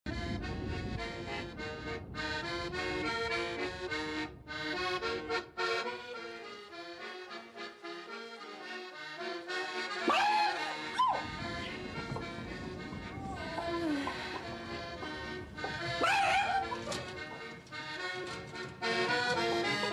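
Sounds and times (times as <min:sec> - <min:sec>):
accordion film score music: 0:00.1 - 0:19.9.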